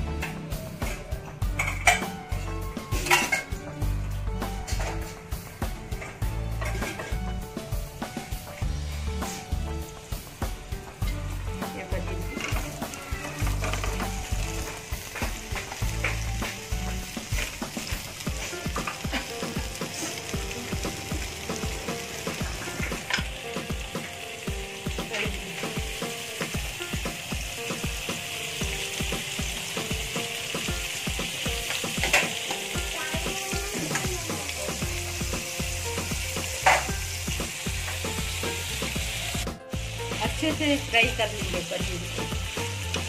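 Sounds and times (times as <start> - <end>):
frying sizzle: 0.0 - 43.0
spitting oil crackles: 8.5 - 43.0.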